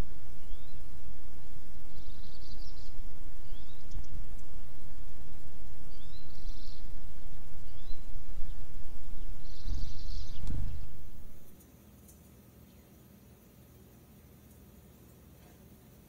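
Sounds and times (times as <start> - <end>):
birds chirping: 0.0 - 13.1
low outdoor rumble: 0.0 - 16.0.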